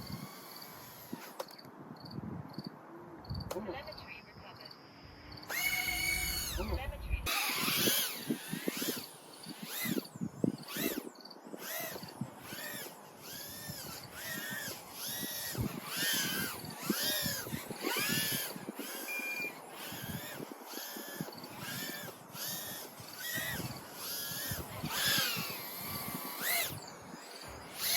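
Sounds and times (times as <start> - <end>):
small drone motors whining: 0.0 - 2.6, 4.9 - 27.9.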